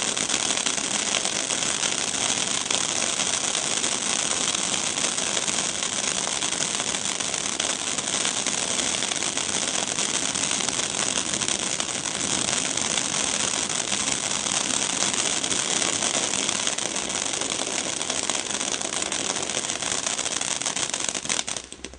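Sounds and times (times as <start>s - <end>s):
firework fountain crackling: 0.0s - 21.9s.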